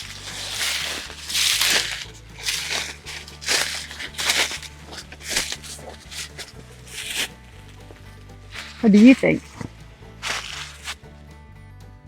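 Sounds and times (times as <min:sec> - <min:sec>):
footsteps crunching on forest floor: 0:00.0 - 0:11.2.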